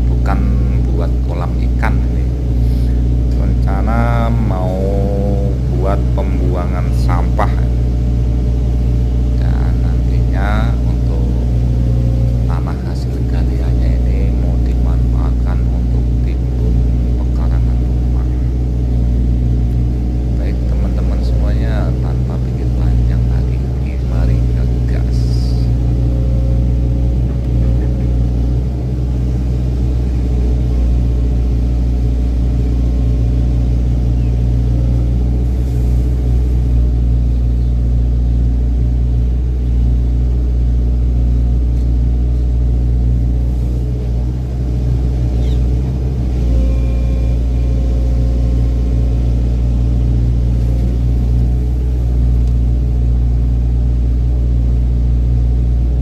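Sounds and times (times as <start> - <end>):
excavator diesel engine droning: 0.0 - 56.0.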